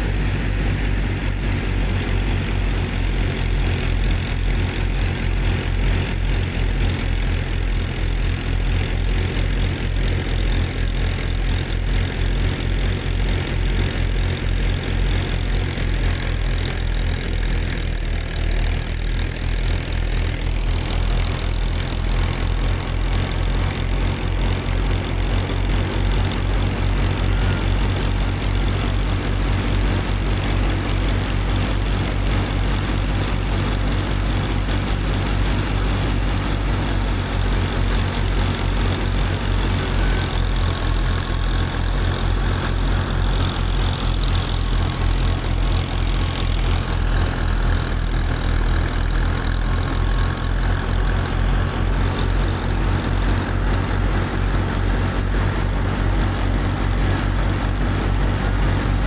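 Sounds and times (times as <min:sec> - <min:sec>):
small thresher machine running: 0:00.0 - 0:59.0.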